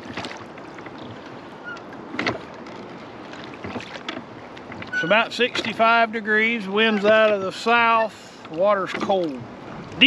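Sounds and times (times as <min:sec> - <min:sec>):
oars swishing water: 0:00.0 - 0:10.0.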